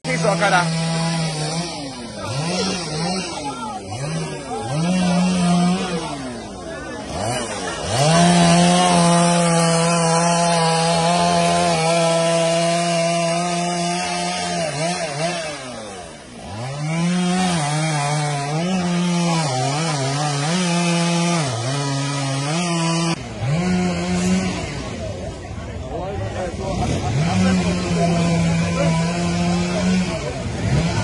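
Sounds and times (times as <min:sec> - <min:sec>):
chainsaw revving and cutting wood: 0:00.0 - 0:31.0.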